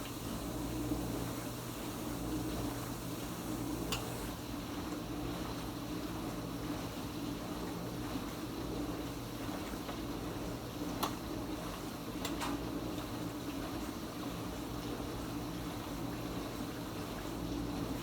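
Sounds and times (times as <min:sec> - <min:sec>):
dishwasher pump hum: 0:00.0 - 0:18.0.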